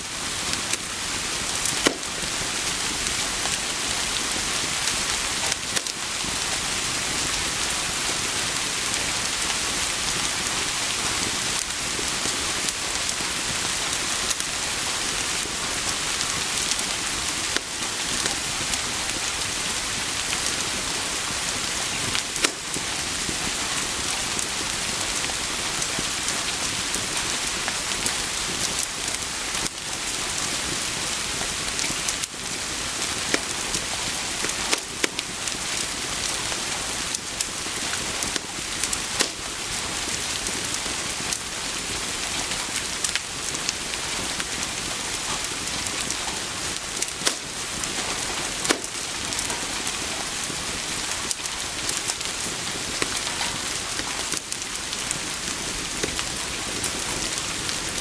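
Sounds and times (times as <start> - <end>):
steady rain with ticks: 0.0 - 58.0.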